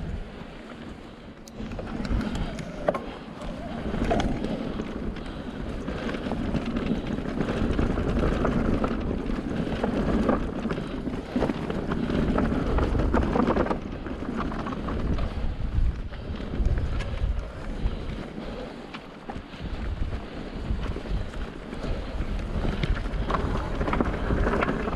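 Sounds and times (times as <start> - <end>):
bike clicks and rattles: 0.0 - 24.9
bike tyre rumble: 0.0 - 24.9
wind buffeting microphone: 0.0 - 24.9.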